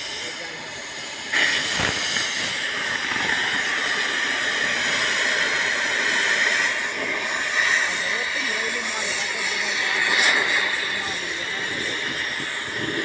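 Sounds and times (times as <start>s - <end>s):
cutting torch hissing: 0.0s - 13.0s.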